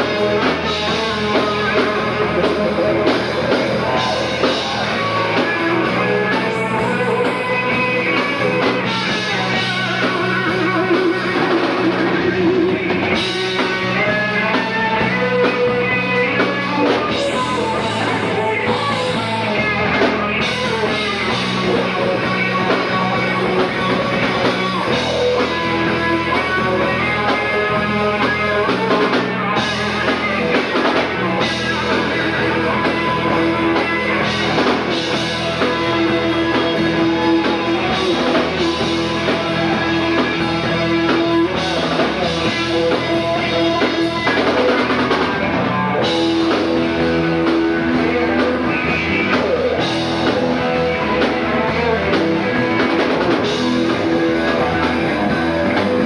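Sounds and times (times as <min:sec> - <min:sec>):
drum kit: 0:00.0 - 0:56.0
electric guitar lead lines: 0:00.0 - 0:56.0.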